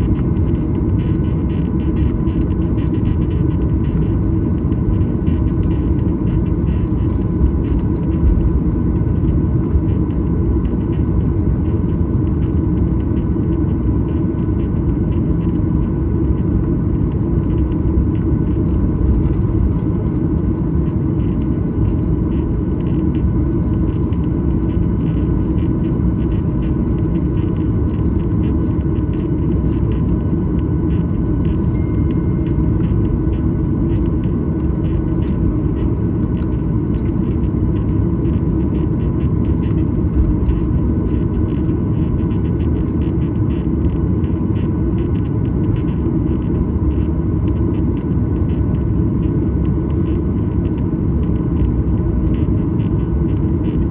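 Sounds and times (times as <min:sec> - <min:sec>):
aircraft cabin rumble: 0:00.0 - 0:53.9
faint steady whine: 0:00.0 - 0:53.9.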